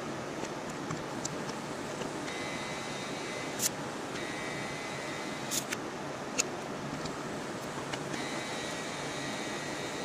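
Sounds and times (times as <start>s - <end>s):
faint high whine: 0.0s - 10.0s
room noise hiss: 0.0s - 10.0s.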